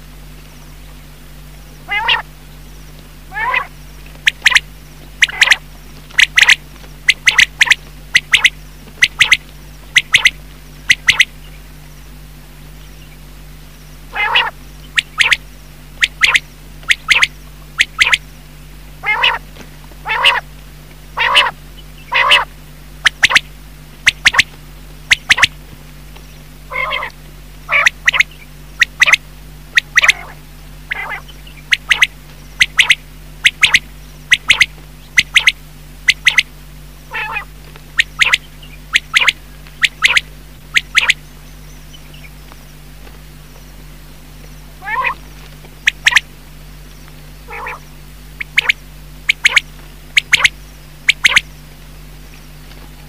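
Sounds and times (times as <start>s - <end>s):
quail calling: 1.8s - 2.6s, 3.2s - 11.7s, 14.0s - 20.5s, 21.1s - 46.3s, 46.9s - 53.0s.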